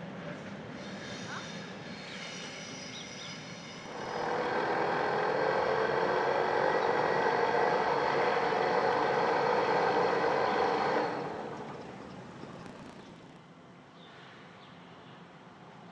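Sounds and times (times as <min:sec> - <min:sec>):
train passing: 0:00.0 - 0:13.7.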